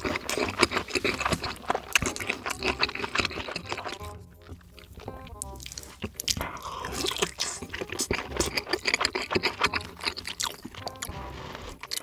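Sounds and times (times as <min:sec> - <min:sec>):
wet mouth clicks and smacks: 0:00.0 - 0:11.1, 0:11.7 - 0:12.0
biting and chewing: 0:00.0 - 0:12.0.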